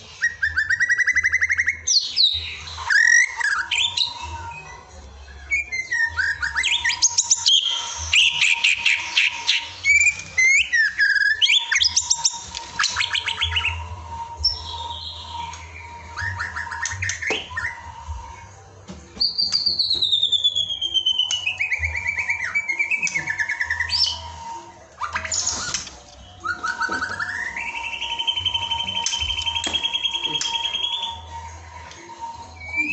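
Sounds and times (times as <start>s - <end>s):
bird song whistles and trills: 0.0s - 32.9s.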